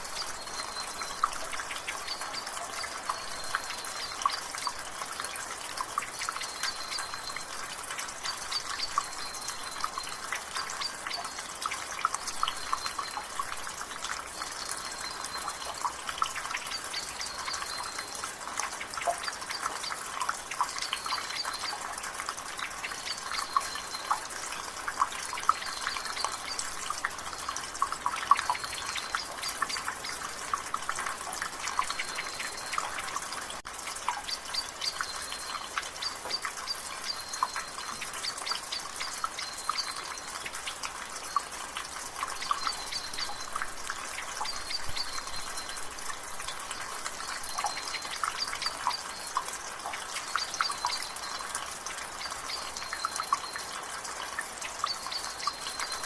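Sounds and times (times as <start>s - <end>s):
light rain hiss: 0.0s - 56.0s
water dripping from gutter: 0.0s - 56.0s.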